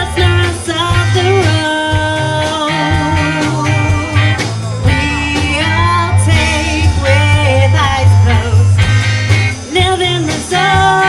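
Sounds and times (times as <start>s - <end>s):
person singing: 0.0s - 9.0s, 9.7s - 11.0s
live band playing: 0.0s - 11.0s.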